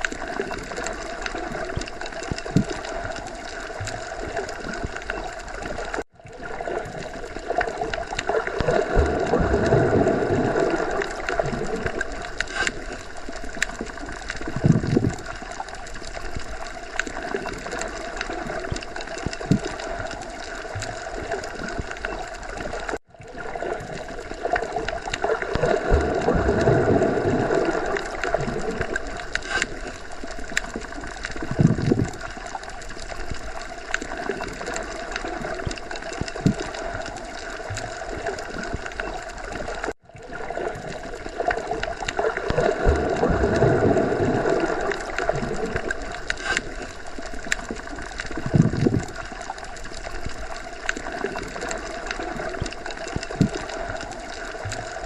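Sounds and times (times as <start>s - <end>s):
underwater wash of water: 0.0s - 55.0s.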